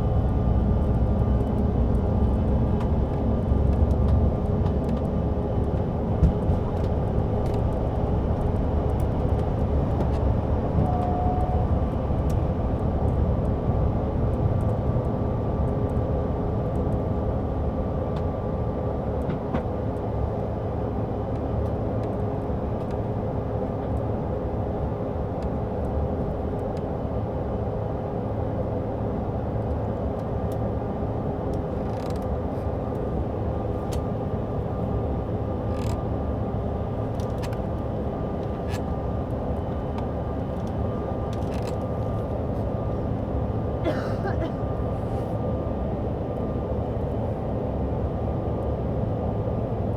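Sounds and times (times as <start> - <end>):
jet engine cabin drone: 0.0 - 49.9.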